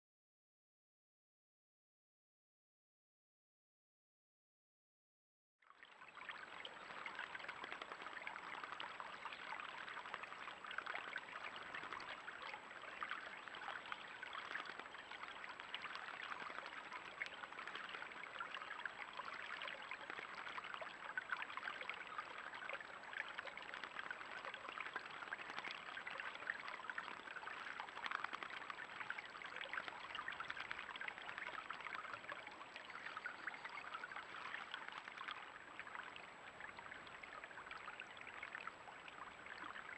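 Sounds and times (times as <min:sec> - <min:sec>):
stream trickling over stones: 0:05.6 - 0:39.9.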